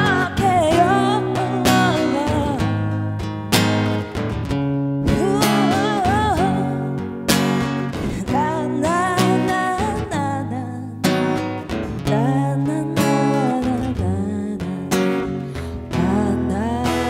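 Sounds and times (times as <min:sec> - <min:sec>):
live blues guitar: 0:00.0 - 0:17.0.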